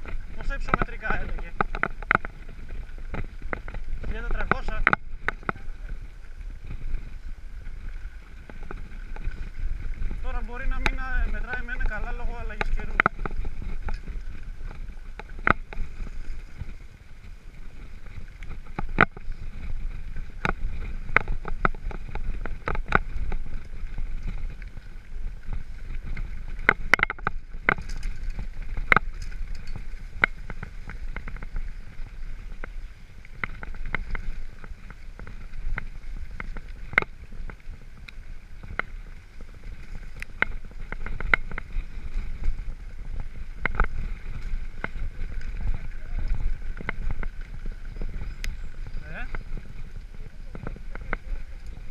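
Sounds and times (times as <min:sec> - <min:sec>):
bike clicking and rattling: 0:00.0 - 0:05.7, 0:06.4 - 0:51.9
bike tyres rumbling on dirt trail: 0:00.0 - 0:51.9.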